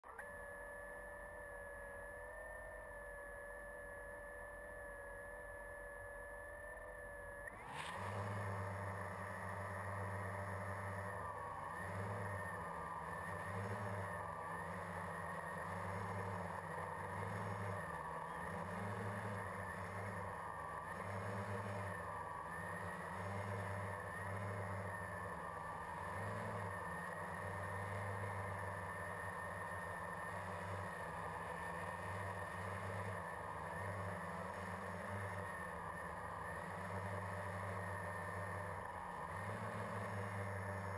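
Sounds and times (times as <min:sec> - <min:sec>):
quadcopter motors and propellers: 0:00.0 - 0:40.9.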